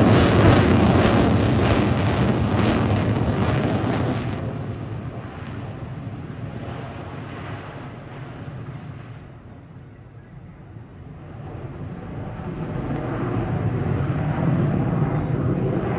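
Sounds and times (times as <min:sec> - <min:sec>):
jet engine roar crackling: 0:00.0 - 0:15.9.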